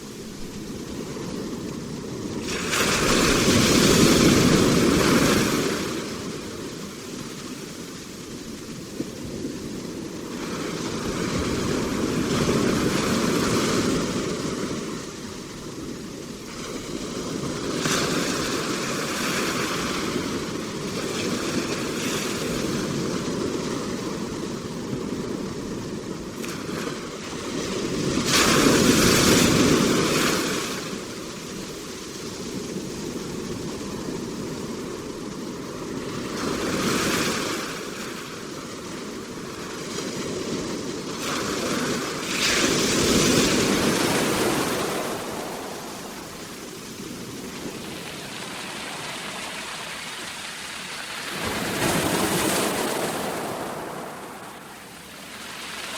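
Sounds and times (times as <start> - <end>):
ocean waves breaking on shore: 0.0 - 55.9.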